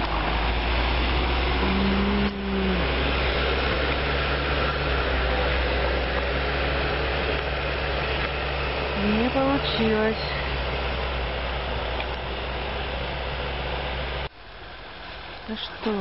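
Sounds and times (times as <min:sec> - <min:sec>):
engine running hard under load: 0:00.0 - 0:16.0.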